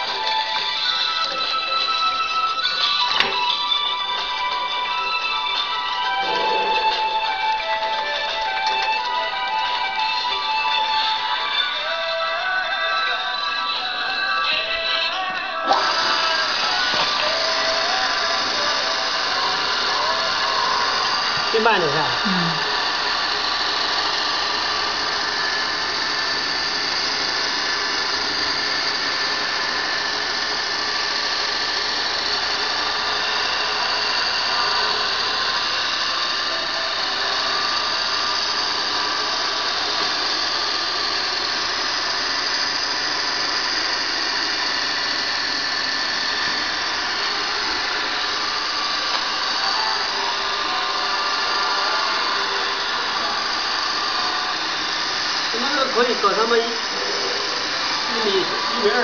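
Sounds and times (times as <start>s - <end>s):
grinding machine whine: 0.0s - 59.0s.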